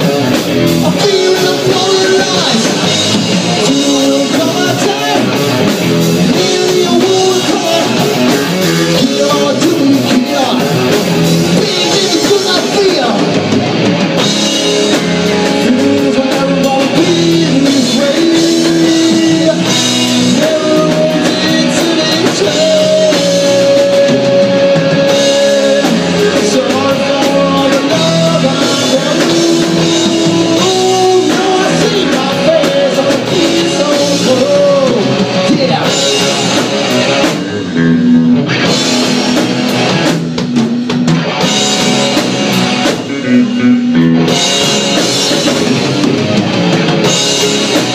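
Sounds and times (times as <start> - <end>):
drum kit: 0.0 - 47.9
electric bass: 0.0 - 47.9
electric guitar: 0.0 - 47.9.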